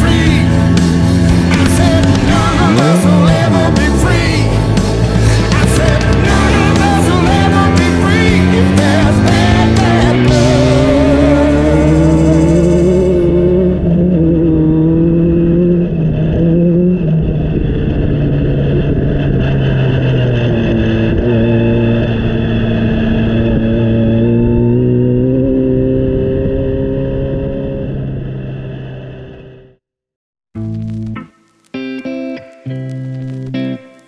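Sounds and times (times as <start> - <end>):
race car engine at high revs: 0.0 - 29.5.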